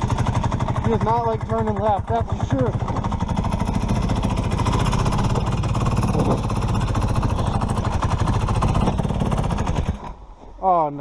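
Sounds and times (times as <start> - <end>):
two-stroke snowmobile engine running: 0.0 - 10.4.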